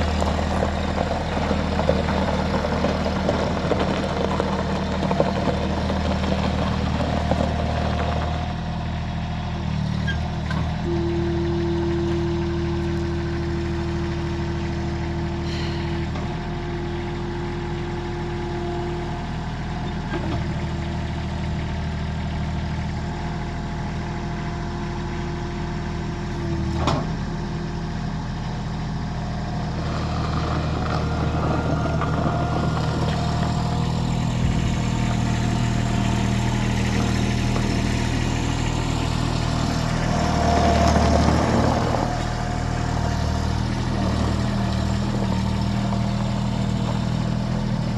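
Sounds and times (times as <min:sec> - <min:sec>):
loader diesel engine running: 0:00.0 - 0:47.9.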